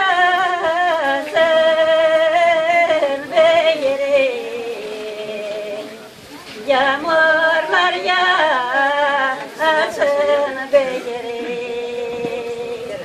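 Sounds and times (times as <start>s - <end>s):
women singing unaccompanied: 0.0s - 13.0s.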